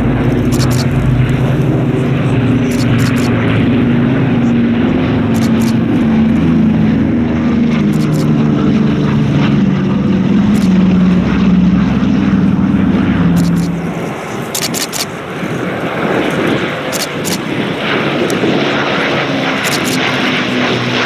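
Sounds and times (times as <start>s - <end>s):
propeller plane flying overhead: 0.0s - 21.0s.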